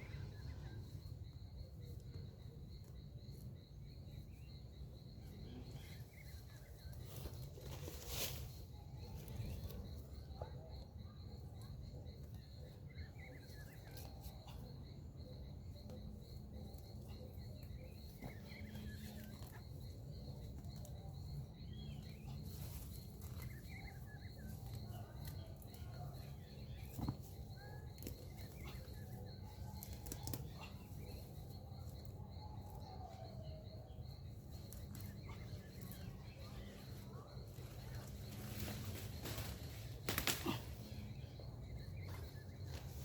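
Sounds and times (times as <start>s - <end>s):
bird chirps: 0.0s - 43.0s
pulsing insect trill: 0.0s - 43.0s.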